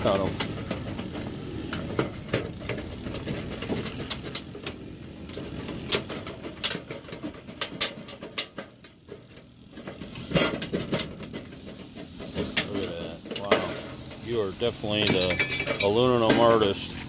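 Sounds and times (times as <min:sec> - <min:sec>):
thin metal sheet rattling: 0:00.0 - 0:16.8.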